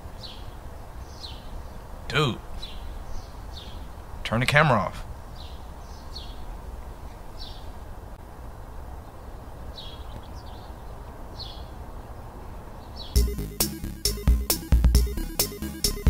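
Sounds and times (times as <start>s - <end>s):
birds chirping: 0.0s - 7.9s, 9.0s - 16.0s
low background hiss: 0.0s - 16.0s.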